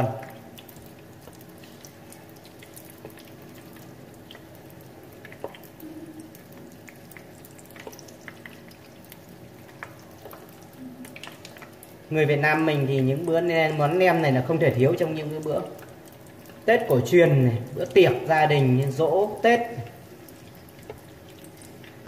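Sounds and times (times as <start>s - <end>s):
oil popping and crackling: 0.0s - 22.0s
spring rolls deep-frying in oil: 0.0s - 22.0s.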